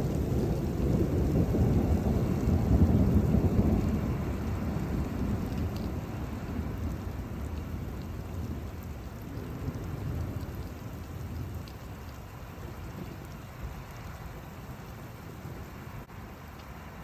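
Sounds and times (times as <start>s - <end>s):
thunder rumbling: 0.0s - 16.1s
raindrops pattering: 0.0s - 17.0s
steady rain: 0.0s - 17.0s.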